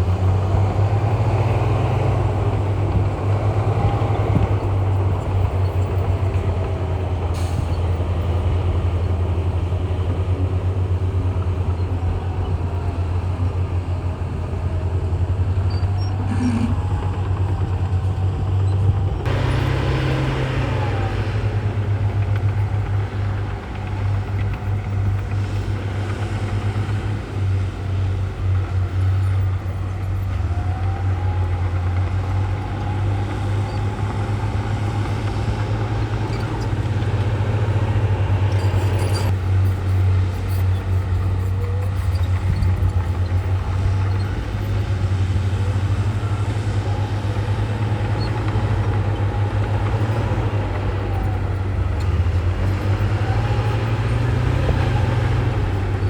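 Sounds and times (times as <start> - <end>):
diesel machinery engine rumble: 0.0 - 56.0.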